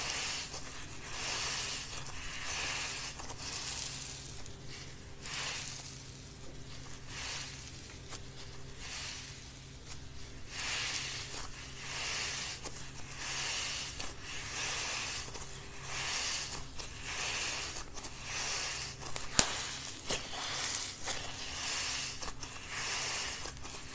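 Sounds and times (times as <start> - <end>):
slime squishing by hand: 0.0 - 23.9.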